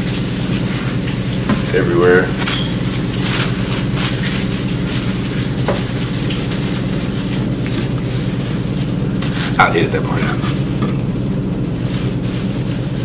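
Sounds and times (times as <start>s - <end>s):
low hum with hiss: 0.0s - 13.0s
paper napkin rustling: 0.0s - 13.0s.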